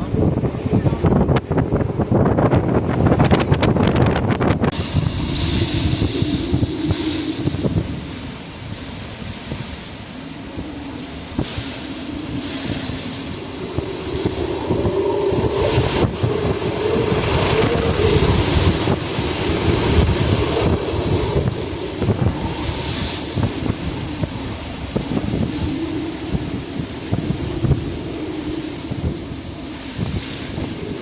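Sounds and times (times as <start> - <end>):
wind buffeting on microphone: 0.0 - 31.0
wind howling and gusting: 0.0 - 31.0.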